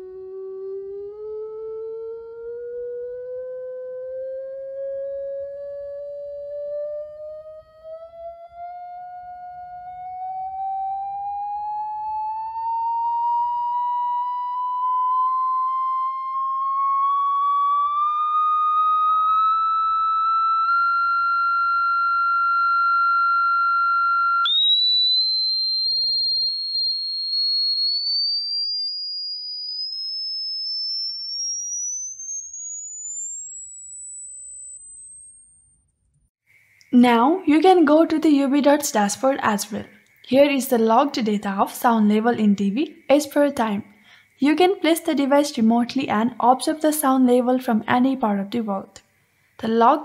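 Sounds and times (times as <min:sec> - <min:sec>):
sine-wave test tone from phone: 0:00.0 - 0:45.3.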